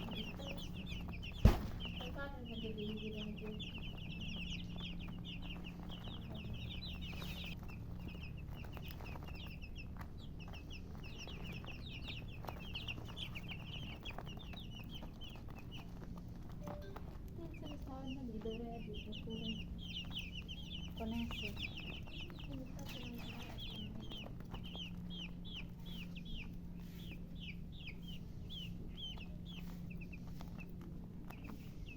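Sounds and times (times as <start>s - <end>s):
baby chicks peeping: 0.0s - 31.9s.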